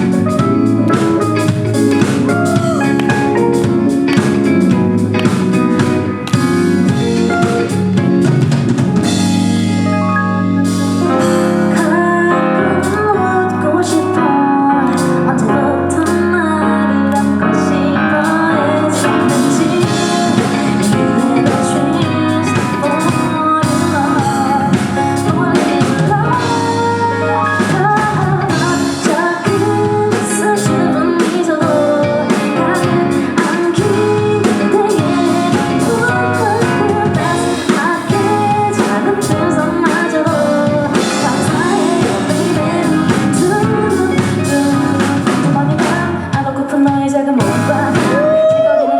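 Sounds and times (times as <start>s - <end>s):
woman singing: 0.0s - 7.8s, 10.6s - 48.9s
live pop-rock band: 0.0s - 48.9s.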